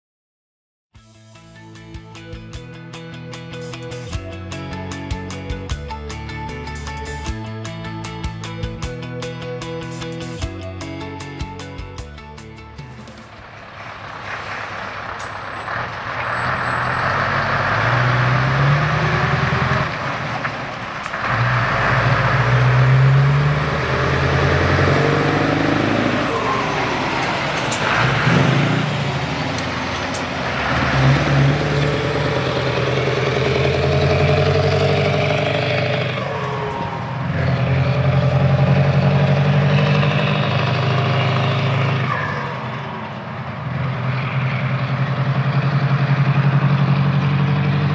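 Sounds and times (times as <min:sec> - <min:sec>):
truck diesel engine accelerating: 0:01.4 - 0:47.9.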